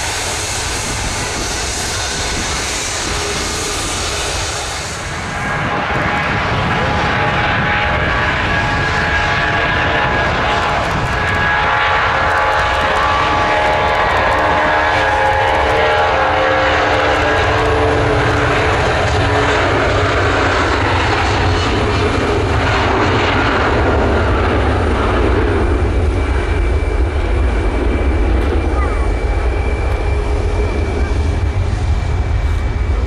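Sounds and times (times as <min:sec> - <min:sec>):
jet engines roaring at takeoff: 0:00.0 - 0:33.0.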